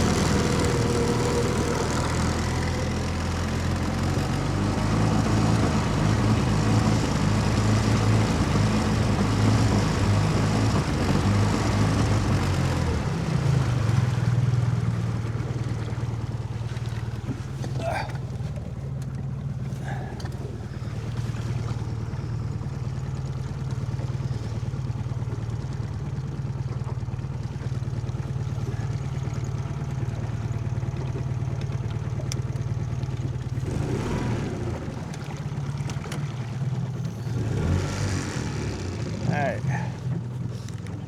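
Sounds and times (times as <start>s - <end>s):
outboard motor droning: 0.0s - 41.0s.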